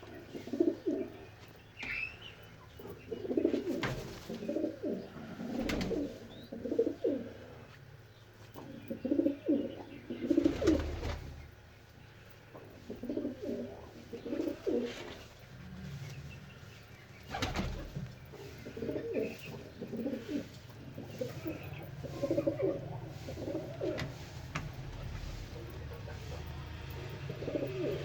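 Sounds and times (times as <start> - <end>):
pigeons cooing: 0.0 - 7.8, 8.6 - 11.5, 12.5 - 28.0
steady low hum: 0.0 - 28.0.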